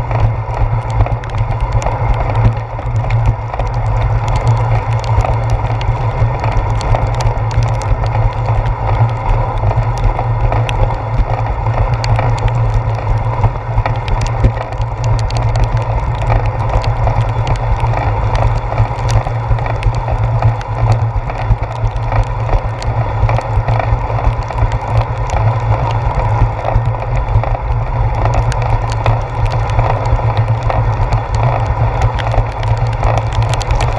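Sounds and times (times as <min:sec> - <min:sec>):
light ticks and clicks: 0:00.0 - 0:33.9
road vibration and wind rumble: 0:00.0 - 0:33.9.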